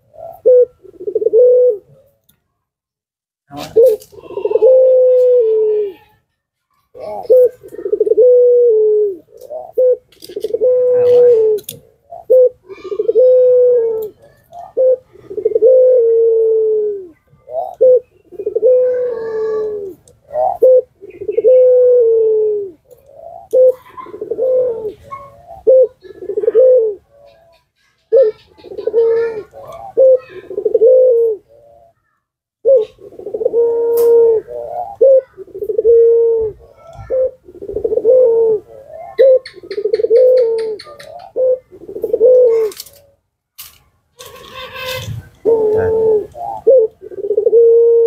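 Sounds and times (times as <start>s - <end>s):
dove cooing: 0.0s - 2.2s, 3.5s - 6.2s, 6.8s - 43.2s, 44.2s - 48.0s.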